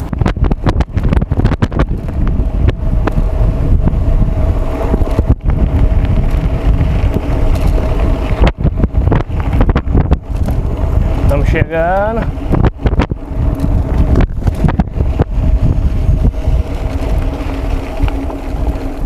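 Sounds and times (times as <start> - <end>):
bike knocks and rattles: 0.0 - 19.0
wind buffeting microphone: 0.0 - 19.0.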